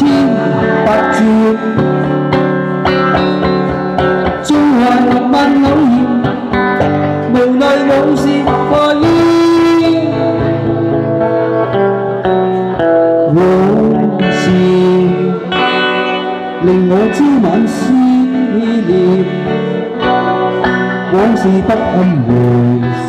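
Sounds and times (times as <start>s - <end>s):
guitars strummed and picked: 0.0s - 23.0s.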